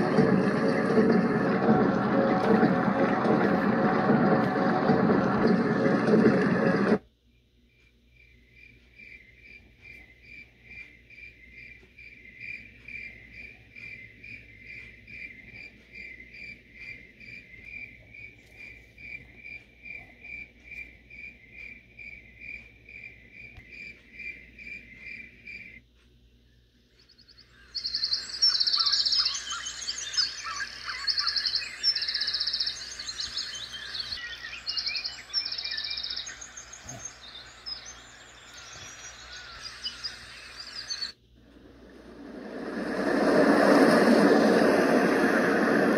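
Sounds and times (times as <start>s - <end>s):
recorded birds chirping and twittering: 0.0s - 25.8s, 26.4s - 45.9s
recorded cricket chirps: 7.0s - 45.9s.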